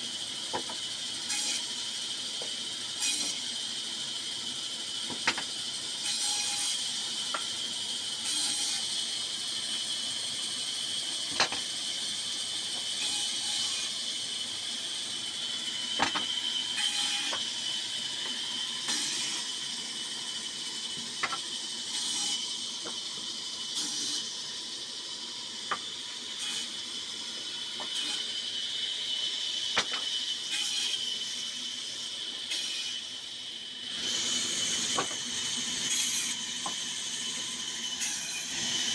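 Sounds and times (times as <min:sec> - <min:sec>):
band saw cutting wood: 0:00.5 - 0:04.0, 0:05.1 - 0:38.9.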